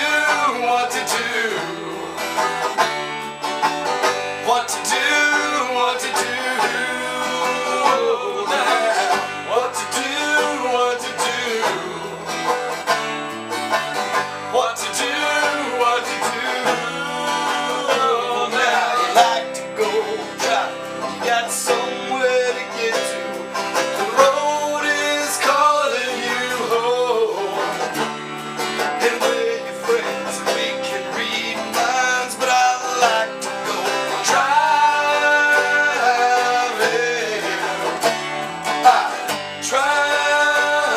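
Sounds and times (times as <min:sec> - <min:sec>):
person singing: 0:00.0 - 0:02.9, 0:04.3 - 0:13.0, 0:14.0 - 0:40.9
banjo picking: 0:00.0 - 0:40.9
guitar picking: 0:00.0 - 0:40.9.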